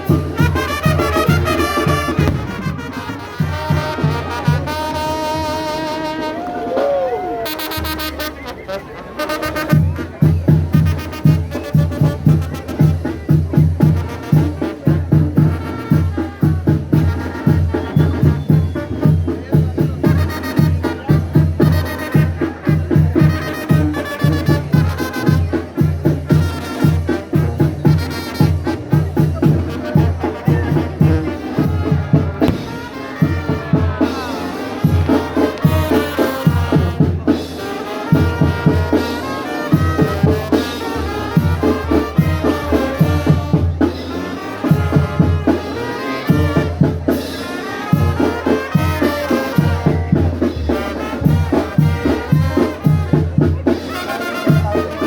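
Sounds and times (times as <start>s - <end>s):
brass band music: 0.0s - 55.0s.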